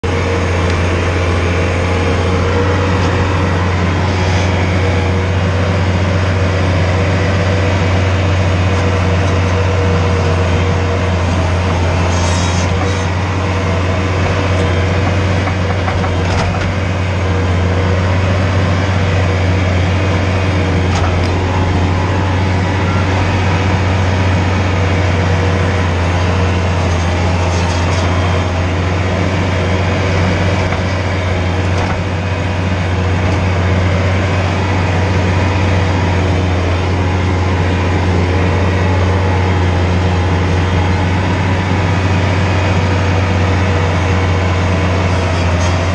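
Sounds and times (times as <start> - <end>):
skid steer engine running: 0.0 - 45.9.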